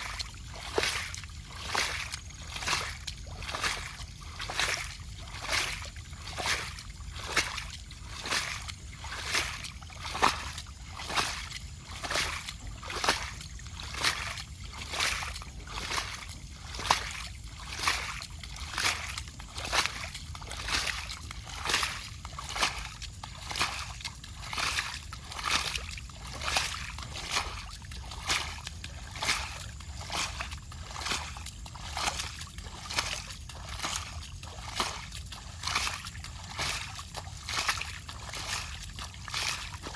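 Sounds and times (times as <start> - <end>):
water splashing: 0.0 - 39.9.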